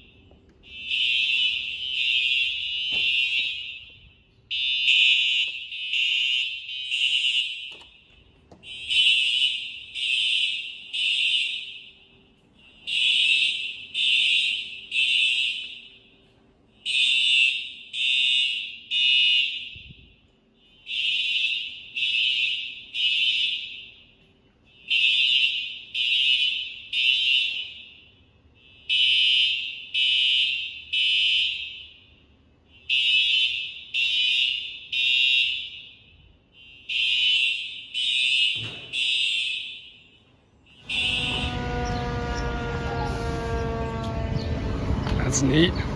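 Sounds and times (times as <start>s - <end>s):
fire alarm horn blasts: 0.0s - 45.9s.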